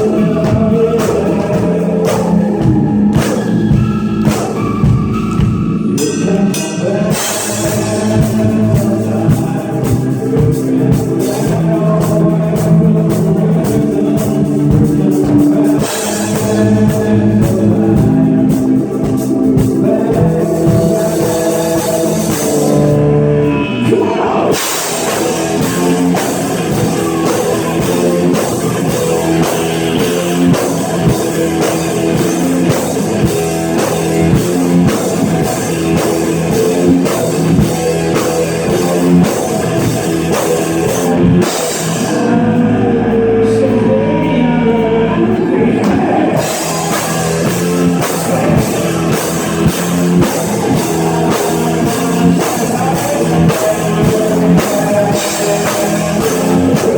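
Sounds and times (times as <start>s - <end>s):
drum kit: 0.0s - 56.9s
electric guitars: 0.0s - 56.9s
rock band playing: 0.0s - 56.9s.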